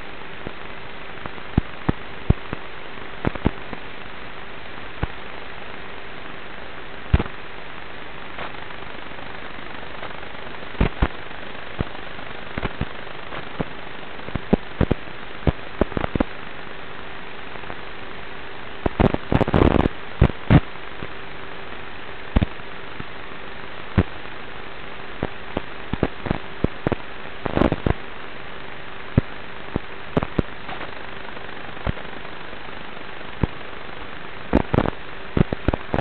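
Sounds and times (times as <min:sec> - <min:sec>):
steady hiss with hum: 0:00.0 - 0:36.0.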